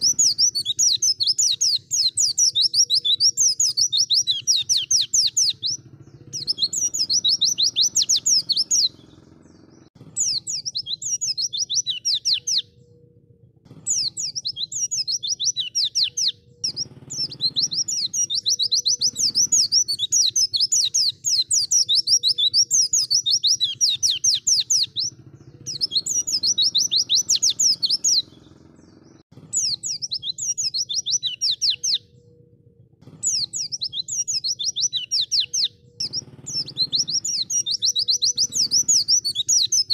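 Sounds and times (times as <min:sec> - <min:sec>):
bird twittering: 0:00.0 - 0:39.9.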